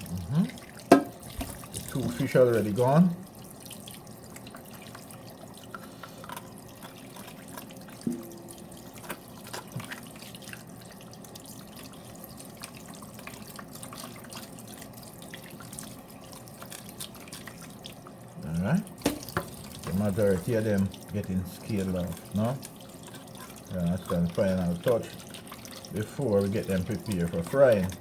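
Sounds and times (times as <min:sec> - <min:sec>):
water running from a tap: 0:00.0 - 0:28.0.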